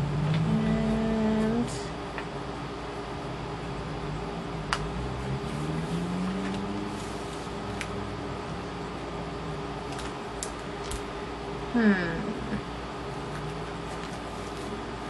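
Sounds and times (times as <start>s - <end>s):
mechanical room hum: 0.0s - 15.0s.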